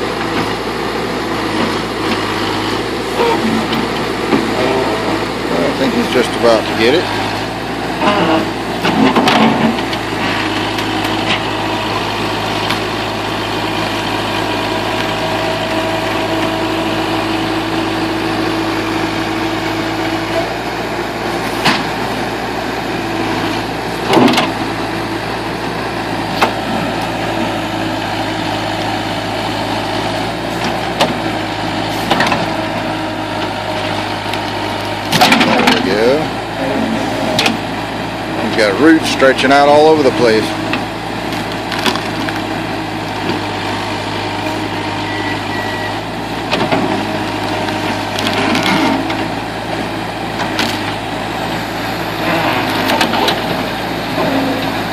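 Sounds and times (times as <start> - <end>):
backhoe engine running: 0.0 - 54.9.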